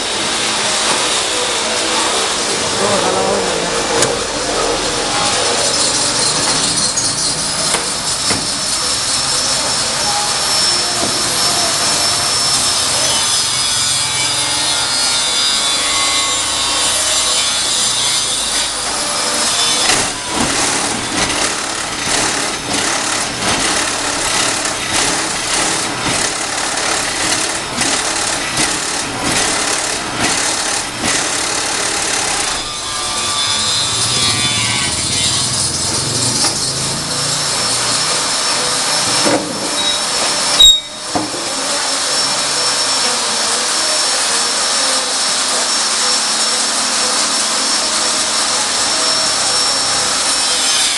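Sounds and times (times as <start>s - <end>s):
paving-block machine clattering: 0.0s - 42.8s.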